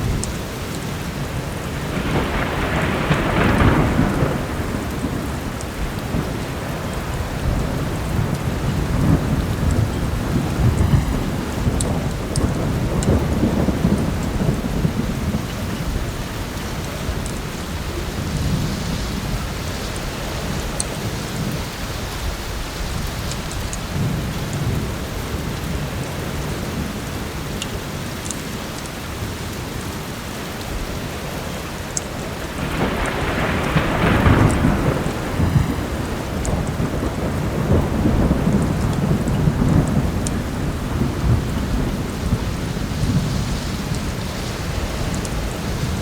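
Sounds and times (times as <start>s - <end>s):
rolling thunder: 0.0s - 27.0s, 32.1s - 46.0s
heavy rain: 0.0s - 46.0s.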